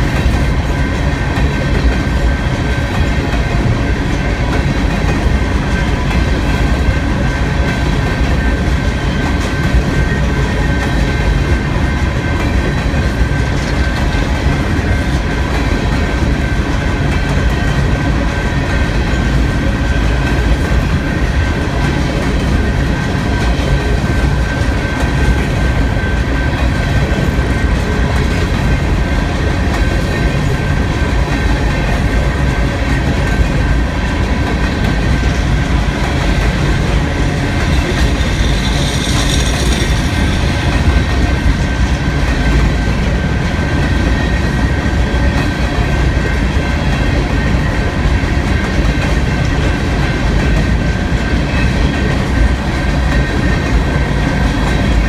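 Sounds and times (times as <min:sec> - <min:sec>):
freight train rumble with wheel clatter: 0:00.0 - 0:55.0.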